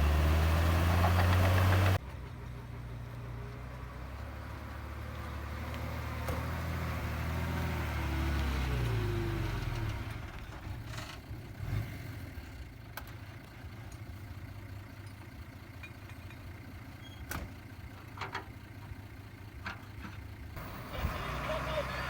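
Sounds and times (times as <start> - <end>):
diesel engine idling: 0.0 - 11.5, 12.3 - 22.0.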